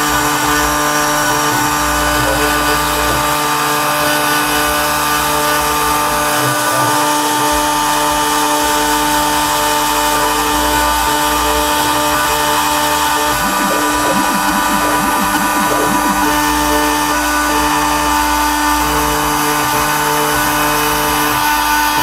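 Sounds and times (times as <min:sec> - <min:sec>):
low hum of axis drives: 0:00.0 - 0:22.0
spindle whine: 0:00.0 - 0:22.0.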